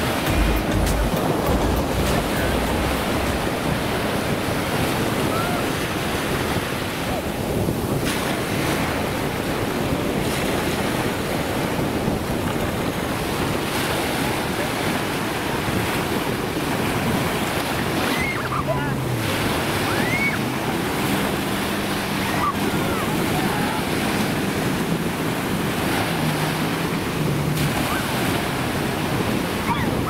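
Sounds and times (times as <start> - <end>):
waves washing on sandy shore: 0.0 - 30.0
wind buffeting microphone: 0.0 - 30.0.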